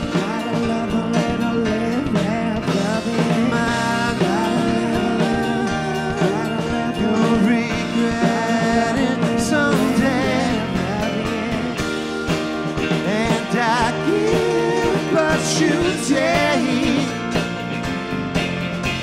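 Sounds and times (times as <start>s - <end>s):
bass guitar: 0.0s - 19.0s
drum kit: 0.0s - 19.0s
electric guitar: 0.0s - 19.0s
stage piano: 0.0s - 19.0s.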